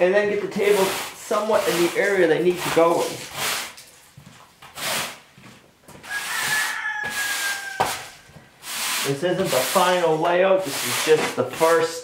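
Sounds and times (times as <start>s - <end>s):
push broom sweeping concrete: 0.0s - 3.9s, 4.6s - 5.4s, 6.1s - 12.0s.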